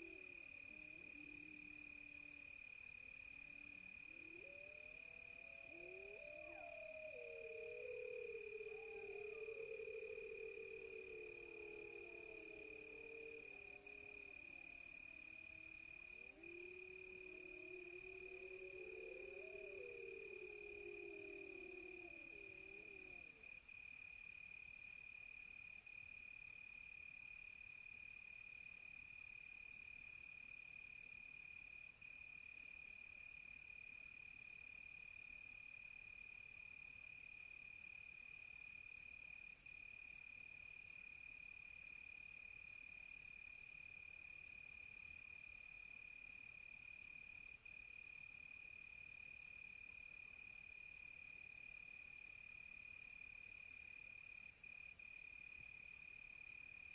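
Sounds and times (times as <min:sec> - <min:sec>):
cricket pulsed chirping: 0:00.0 - 0:56.9
cricket steady trill: 0:00.0 - 0:56.9.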